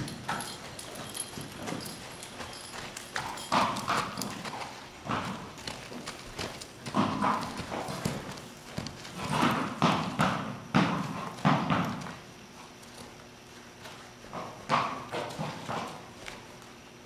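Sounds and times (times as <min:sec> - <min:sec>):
horse hooves on dirt: 0:00.0 - 0:17.0.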